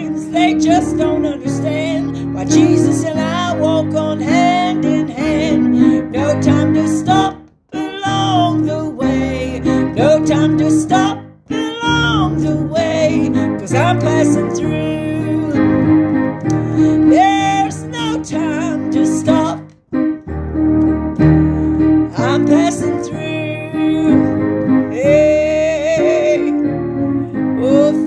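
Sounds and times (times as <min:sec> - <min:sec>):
woman singing: 0:00.0 - 0:15.9, 0:16.8 - 0:19.7, 0:22.0 - 0:26.8, 0:27.5 - 0:28.0
piano chords: 0:00.0 - 0:28.0.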